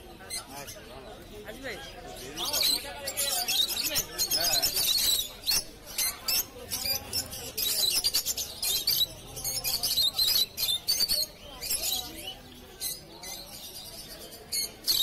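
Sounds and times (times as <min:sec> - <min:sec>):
birds chirping and squeaking: 0:00.0 - 0:15.0.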